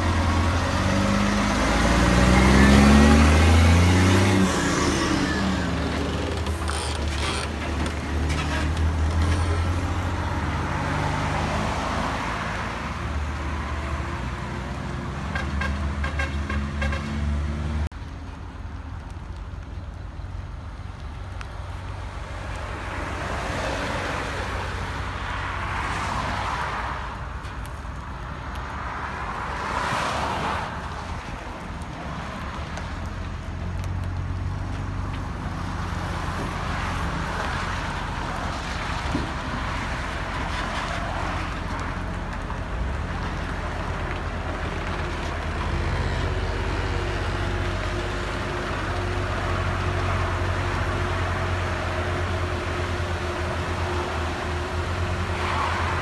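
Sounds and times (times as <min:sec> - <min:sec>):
traffic passing on highway: 0:00.0 - 0:56.0.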